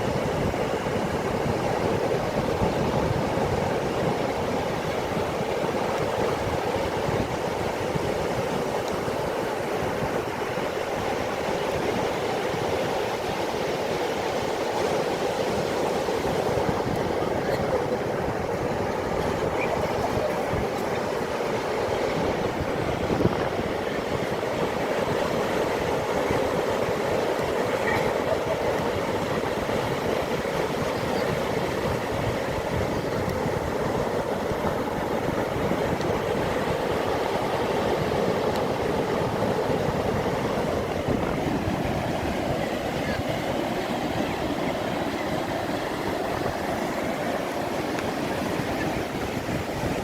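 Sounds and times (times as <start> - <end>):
sea waves rushing: 0.0 - 50.0.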